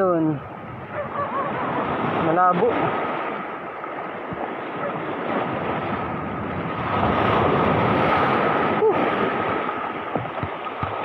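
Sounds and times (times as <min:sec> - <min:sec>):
waves breaking over rocks: 0:00.5 - 0:11.0.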